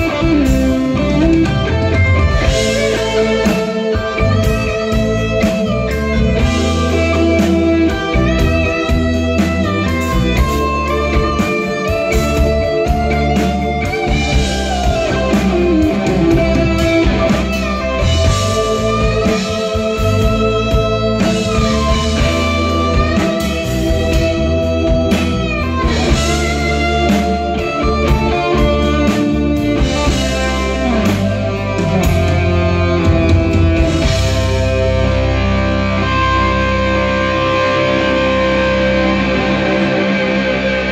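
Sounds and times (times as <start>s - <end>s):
bass: 0.0s - 40.9s
drums: 0.0s - 40.9s
guitar melody with bent notes: 0.0s - 40.9s
keyboards: 0.0s - 40.9s.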